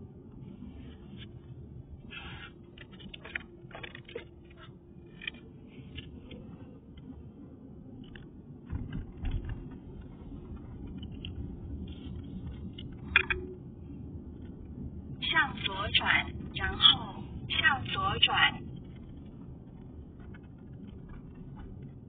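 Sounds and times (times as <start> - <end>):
street low rumble: 0.0 - 22.0.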